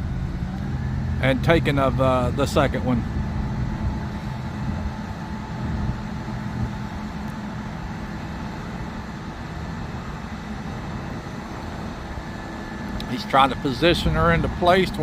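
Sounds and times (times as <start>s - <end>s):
crane diesel engine humming: 0.0s - 15.0s.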